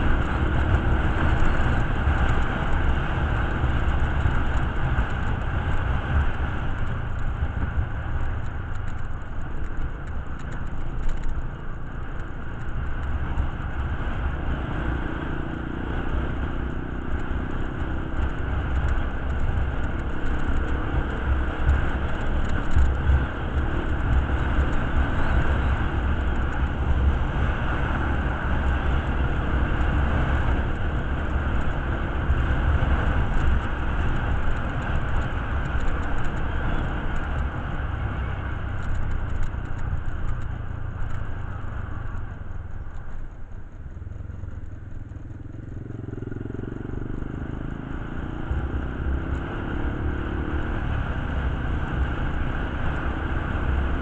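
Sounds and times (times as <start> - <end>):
motorcycle engine running: 0.0 - 54.0
road and wind rumble: 0.0 - 54.0.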